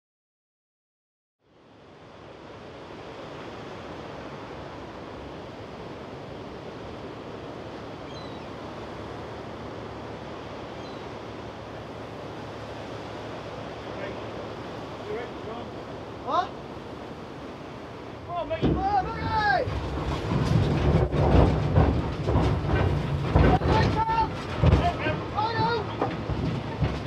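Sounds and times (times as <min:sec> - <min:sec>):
sea surf breaking: 0:01.5 - 0:27.0
wind blowing across microphone: 0:01.6 - 0:27.0.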